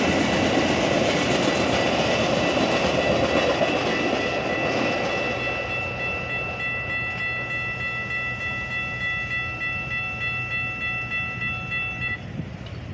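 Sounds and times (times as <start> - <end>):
train cars rumbling past: 0.0 - 12.9
high ringing tone: 1.7 - 12.3.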